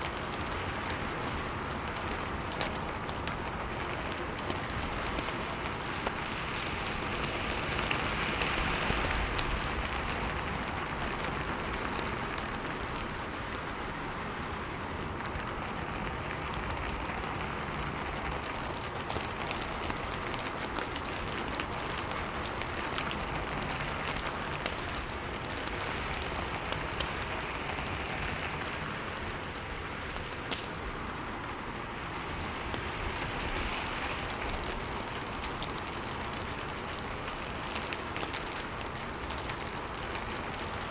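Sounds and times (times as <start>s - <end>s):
fireplace crackling: 0.0s - 40.9s
steady rain: 0.0s - 40.9s.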